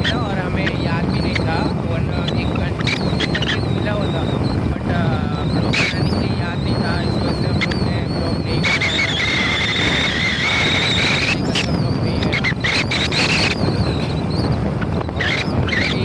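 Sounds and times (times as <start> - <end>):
high wavering squeal: 0.0 - 16.0
wind buffeting microphone: 0.0 - 16.0.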